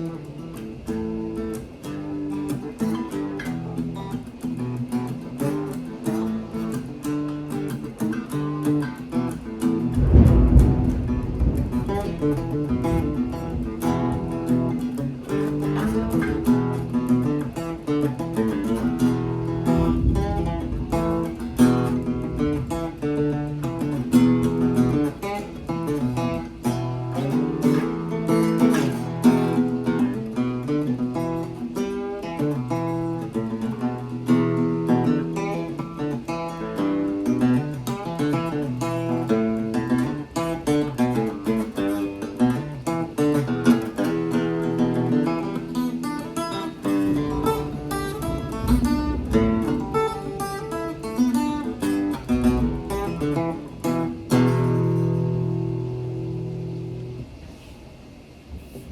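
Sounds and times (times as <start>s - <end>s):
acoustic guitar music: 0.0s - 58.9s.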